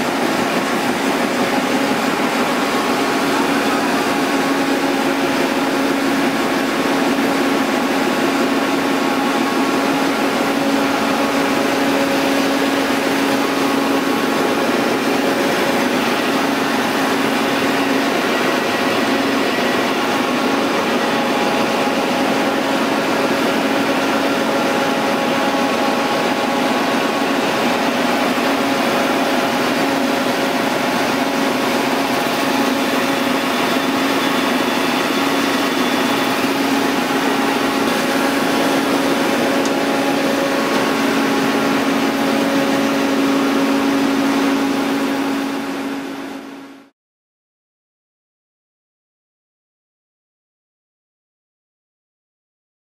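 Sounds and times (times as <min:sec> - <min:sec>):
steady machine tones: 0:00.0 - 0:46.8
printing press hum and whir: 0:00.0 - 0:46.9.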